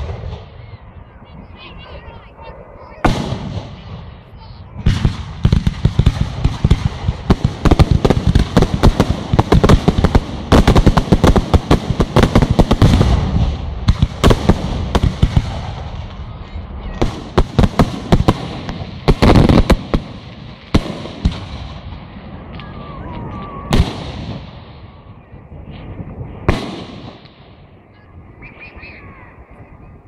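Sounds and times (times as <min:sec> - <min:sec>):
fireworks bangs and crackles: 0:00.0 - 0:28.6.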